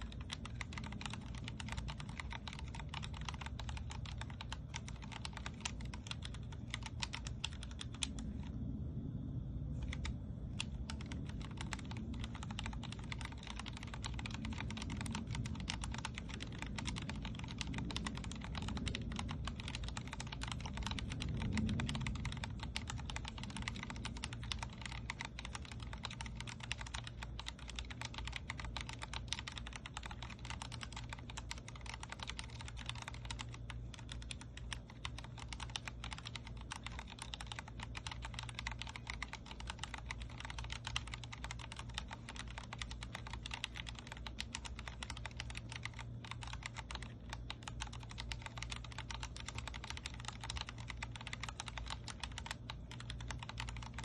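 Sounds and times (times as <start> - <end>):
fast typing on mechanical keyboard: 0.0 - 8.6, 9.8 - 54.0.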